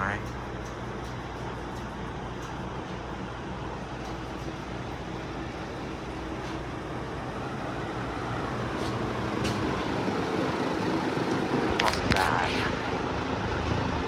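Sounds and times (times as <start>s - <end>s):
fan motors humming: 0.0s - 14.0s.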